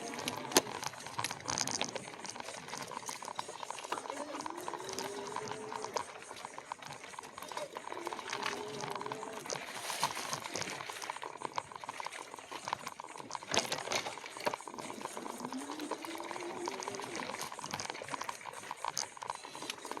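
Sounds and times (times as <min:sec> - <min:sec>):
bike rattling: 0:00.0 - 0:20.0.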